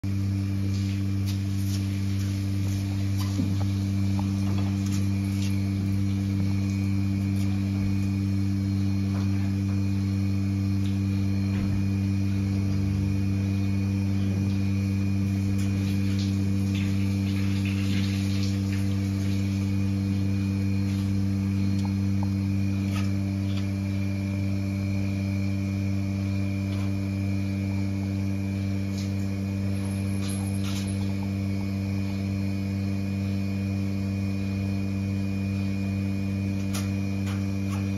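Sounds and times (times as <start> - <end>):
low electrical hum: 0.0 - 37.9.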